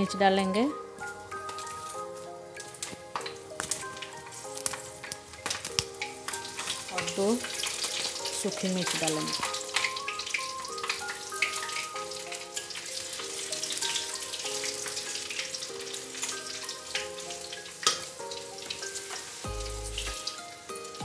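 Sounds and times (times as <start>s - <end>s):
spices sizzling in hot oil: 0.0s - 21.0s
spatula stirring in a pan: 1.0s - 19.5s.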